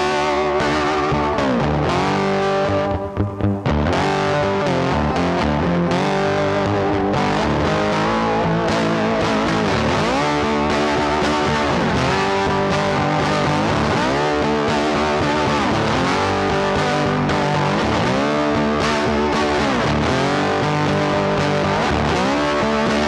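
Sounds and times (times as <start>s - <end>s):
distorted electric guitar music: 0.0s - 23.0s.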